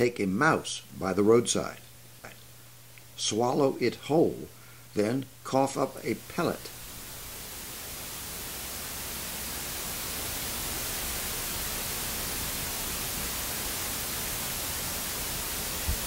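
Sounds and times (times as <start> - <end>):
recording hiss: 0.0 - 16.0.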